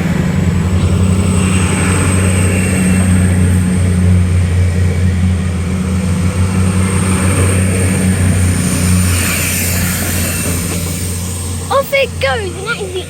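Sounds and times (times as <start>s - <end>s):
train rumbling pulling away: 0.0s - 13.0s.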